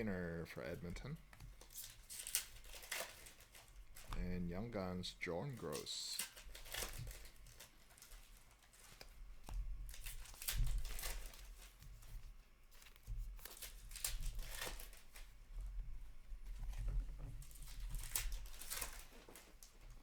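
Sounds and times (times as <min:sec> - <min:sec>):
card pack wrappers crinkling and tearing: 0:00.6 - 0:11.8, 0:12.6 - 0:15.4, 0:17.4 - 0:20.0.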